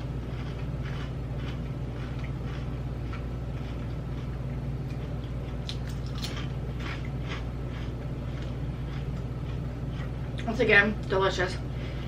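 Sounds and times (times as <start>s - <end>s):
chewing crispy potato chips: 0.0s - 10.5s
low hum: 0.0s - 12.0s.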